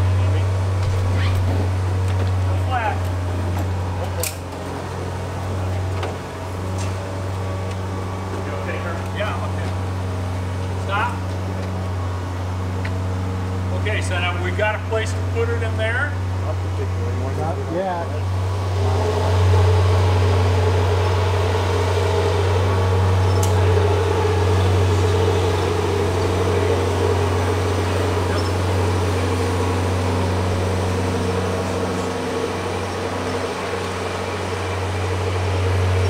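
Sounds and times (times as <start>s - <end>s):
low mechanical drone: 0.0s - 36.0s.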